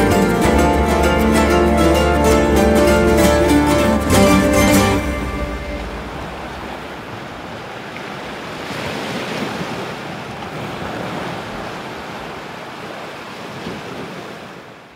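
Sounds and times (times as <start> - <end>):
sea surf washing on shore: 0.0 - 14.9.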